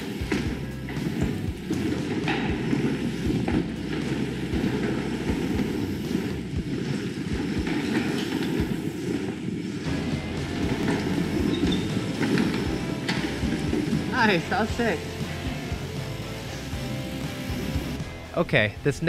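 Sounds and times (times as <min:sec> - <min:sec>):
bike knocks and rattles: 0:00.0 - 0:16.8
tyres rumbling on wooden boards: 0:00.0 - 0:18.0.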